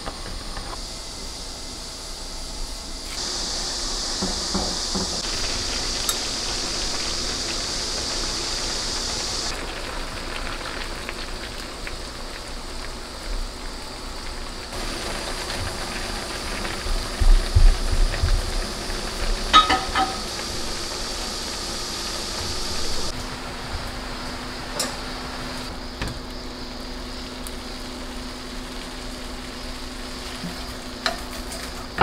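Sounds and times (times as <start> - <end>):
liquid boiling in frying pan: 3.0 - 32.0.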